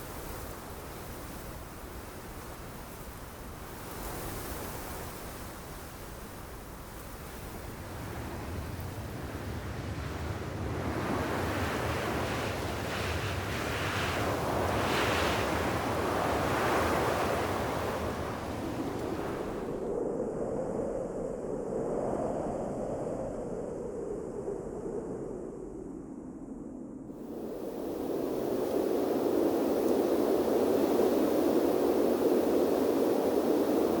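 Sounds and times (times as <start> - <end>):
soft hollow wind: 0.0 - 34.0
wind blowing in gusts: 0.0 - 34.0.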